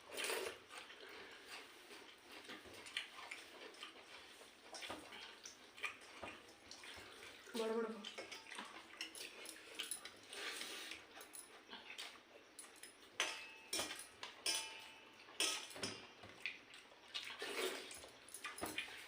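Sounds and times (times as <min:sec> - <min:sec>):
wet eating noises: 0:00.0 - 0:13.2, 0:15.2 - 0:19.0.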